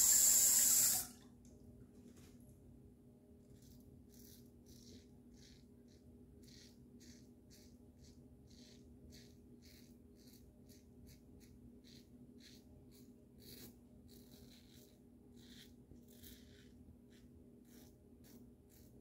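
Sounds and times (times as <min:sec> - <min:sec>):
low steady hum: 0:00.0 - 0:19.0
razor scraping stubble: 0:03.5 - 0:19.0.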